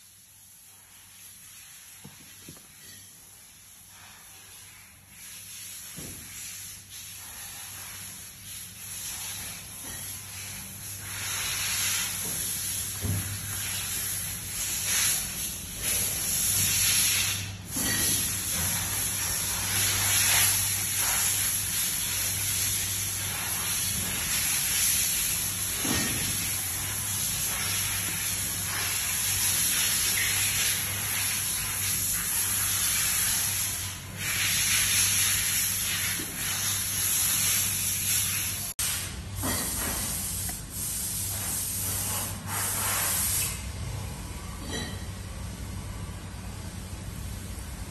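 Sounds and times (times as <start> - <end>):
steady high hiss: 0.0 - 43.7.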